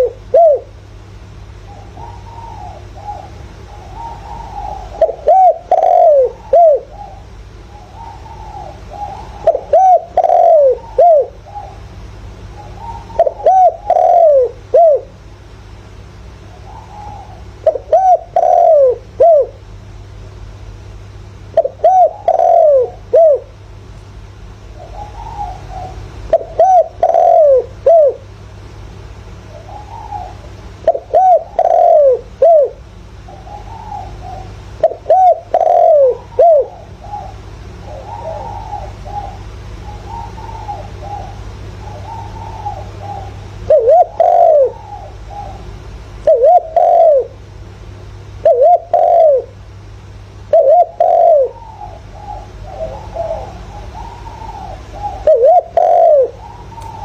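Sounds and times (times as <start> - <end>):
dove cooing: 0.0 - 15.2, 16.4 - 19.7, 21.1 - 23.6, 24.4 - 28.4, 29.3 - 47.6, 48.2 - 57.0
steady low hum: 0.0 - 57.0.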